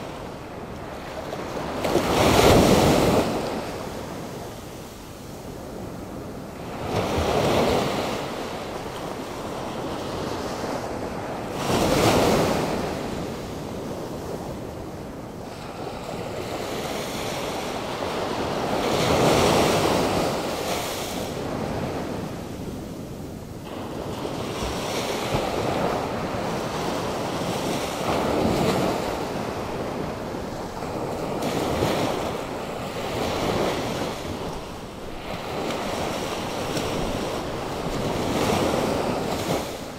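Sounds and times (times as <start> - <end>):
waves crashing on shore: 0.0 - 39.9.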